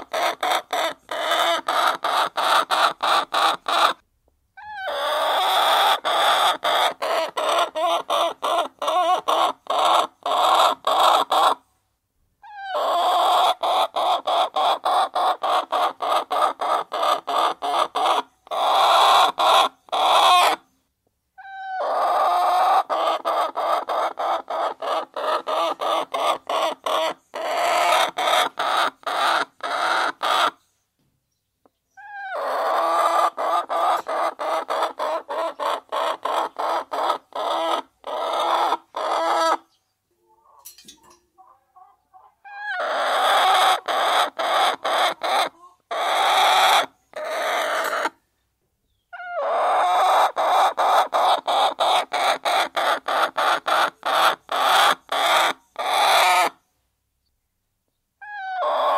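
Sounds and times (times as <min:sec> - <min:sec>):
hens clucking: 0:00.0 - 0:04.0, 0:04.6 - 0:11.6, 0:12.5 - 0:20.6, 0:21.4 - 0:30.6, 0:32.0 - 0:48.2, 0:49.2 - 0:56.6, 0:58.2 - 0:58.9.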